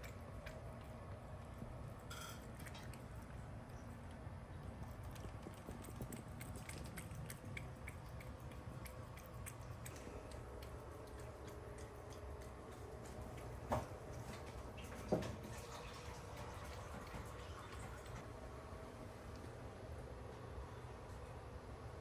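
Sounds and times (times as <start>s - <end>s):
cat eating from steel bowl: 0.0s - 18.2s.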